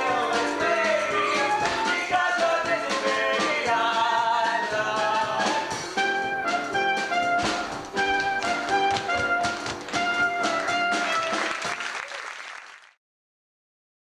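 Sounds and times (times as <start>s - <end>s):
pit orchestra playing jazz: 0.0s - 12.0s.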